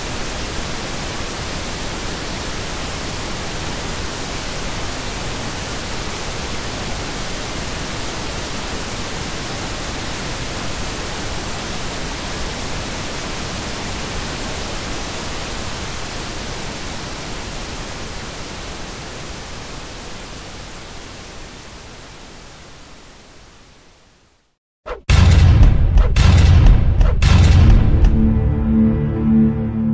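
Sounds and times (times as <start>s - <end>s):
pink noise hiss: 0.0s - 24.6s.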